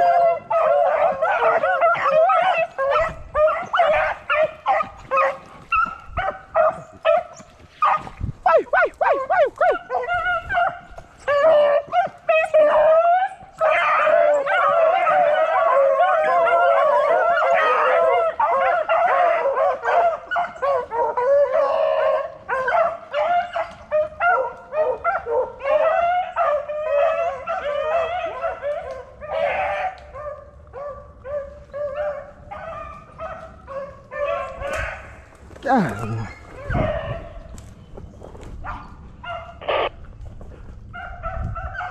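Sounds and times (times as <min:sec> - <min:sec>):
dogs baying and yelping: 0:00.0 - 0:39.9, 0:40.6 - 0:41.9.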